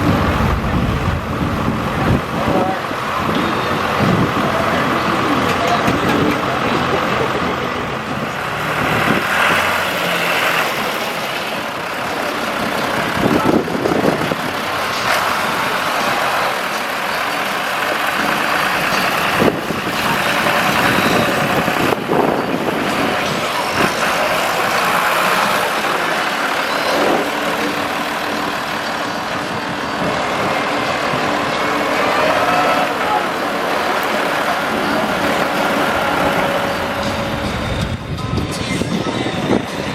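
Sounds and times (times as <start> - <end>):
diesel vehicles driving on road: 0.0 - 39.9.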